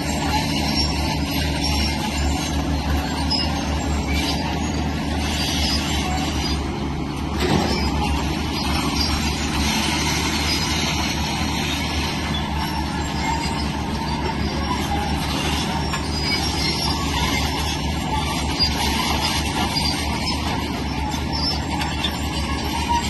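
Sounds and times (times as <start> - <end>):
diesel engine under load: 0.0 - 23.0
machinery grinding noise: 0.0 - 23.0.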